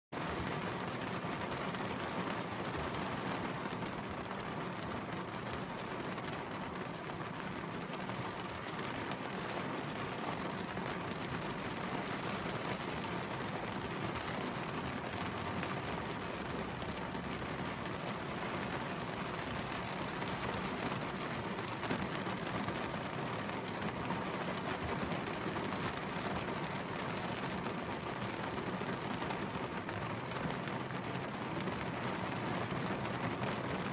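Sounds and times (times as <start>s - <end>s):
heavy rain drumming on car roof: 0.2s - 33.9s.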